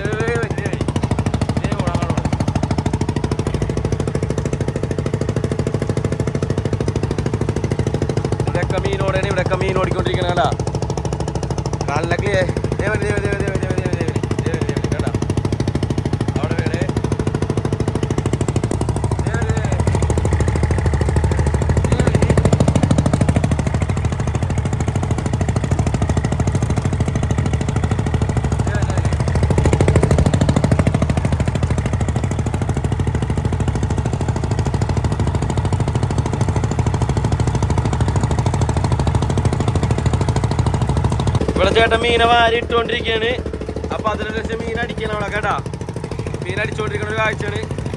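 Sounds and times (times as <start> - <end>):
boat engine knocking: 0.0 - 47.9.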